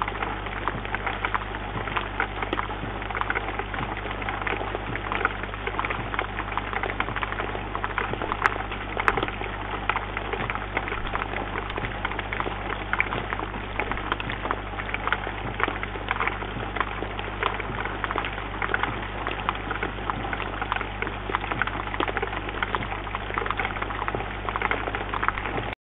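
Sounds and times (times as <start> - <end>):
raindrops pattering on bird feeder: 0.0 - 25.8
steady rain: 0.0 - 25.8.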